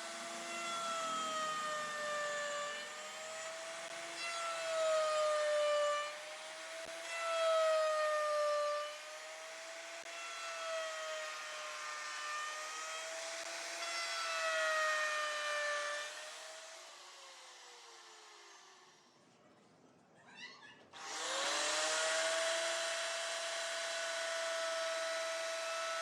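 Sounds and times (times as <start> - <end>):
router spindle whining: 0.0 - 19.1, 21.0 - 26.0.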